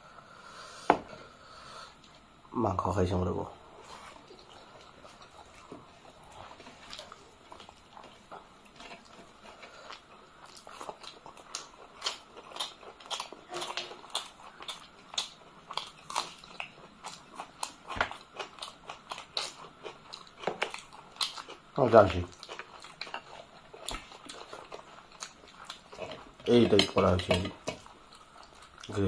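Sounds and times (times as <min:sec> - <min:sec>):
wet chewing and lip-smacking: 0:03.8 - 0:29.0.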